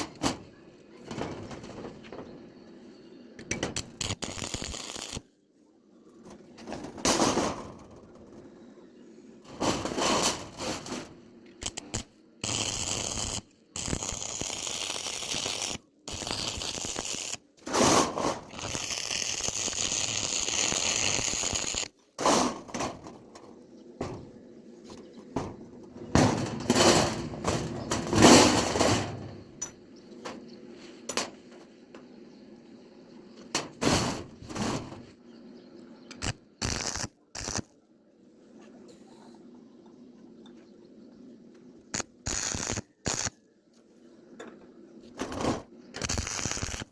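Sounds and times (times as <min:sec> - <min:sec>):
steady crackling noise: 0:03.6 - 0:39.0, 0:40.7 - 0:46.9.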